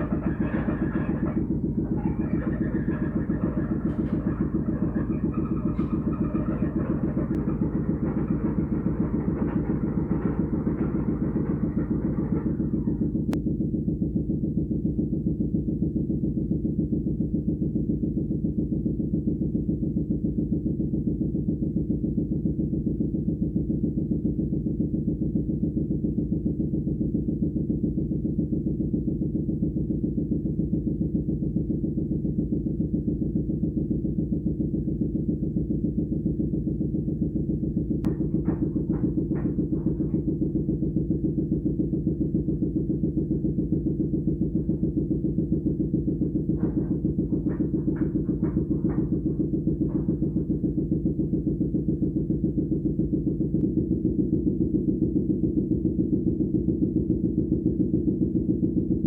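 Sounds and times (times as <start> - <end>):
low pulsing engine-like drone: 0.0 - 59.0.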